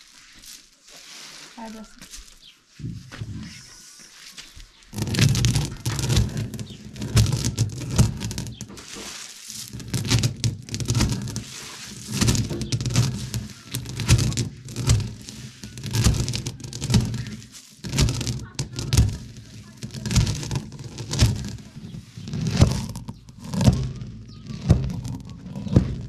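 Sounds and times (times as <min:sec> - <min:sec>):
stone grinding and crushing acorns: 0:04.9 - 0:26.0.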